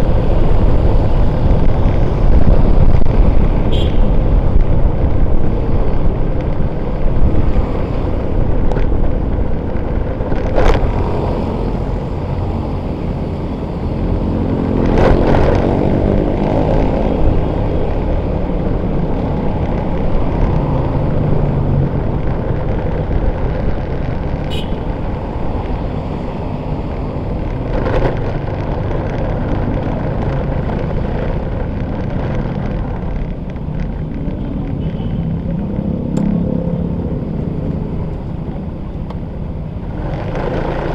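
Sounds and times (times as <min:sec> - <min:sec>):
vehicles passing: 0:00.0 - 0:40.9
wind on microphone: 0:00.0 - 0:40.9.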